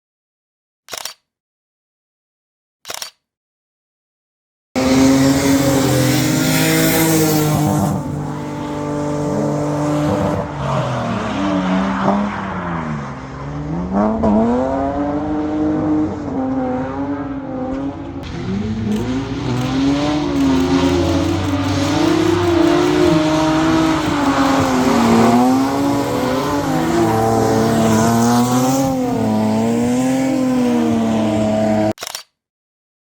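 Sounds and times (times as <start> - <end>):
car engine revving: 4.8 - 32.0.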